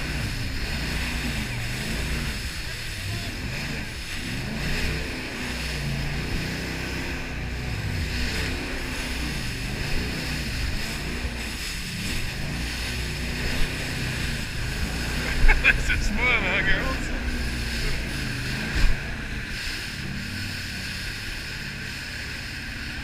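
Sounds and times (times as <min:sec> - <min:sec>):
boat engine running: 0:00.0 - 0:23.0
rush of wind and water: 0:00.0 - 0:23.0.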